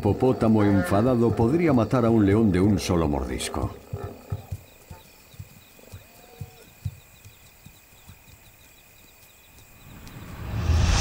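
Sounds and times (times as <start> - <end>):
high insect trill: 0.0 - 11.0
insects chirping: 0.0 - 11.0.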